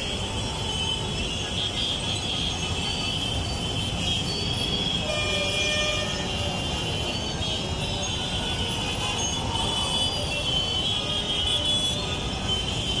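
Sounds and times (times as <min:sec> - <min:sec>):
horns honking: 0:00.0 - 0:13.0
traffic jam engines: 0:00.0 - 0:13.0.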